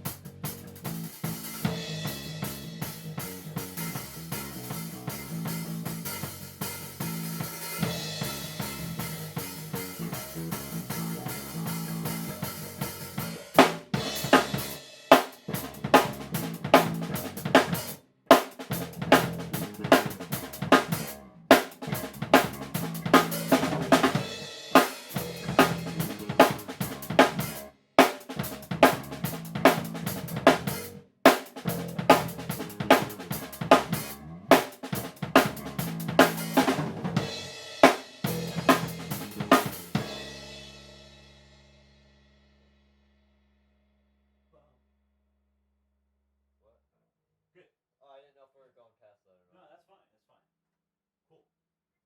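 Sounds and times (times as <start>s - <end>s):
drum kit playing a groove: 0.0s - 42.3s.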